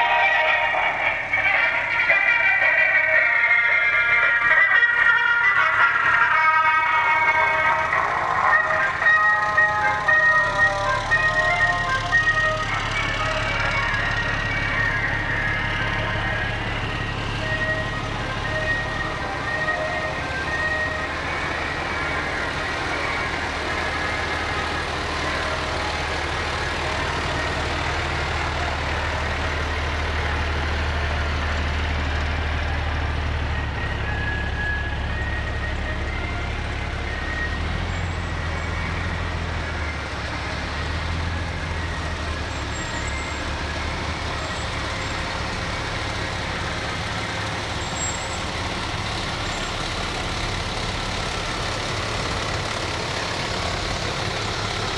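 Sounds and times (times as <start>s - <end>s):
fire truck engines rumbling: 0.0s - 54.9s.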